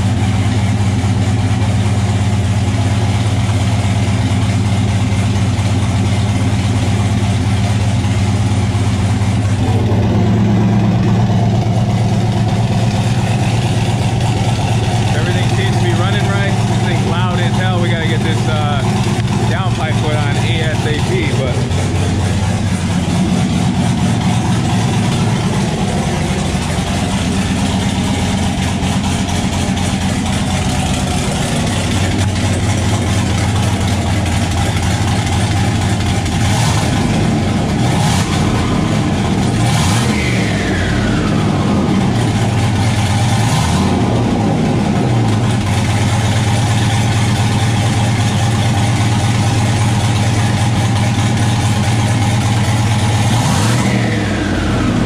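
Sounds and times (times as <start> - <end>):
car engine idling: 0.0 - 55.0
engine throttle blips: 0.0 - 55.0
falling turbo whine: 7.1 - 55.0.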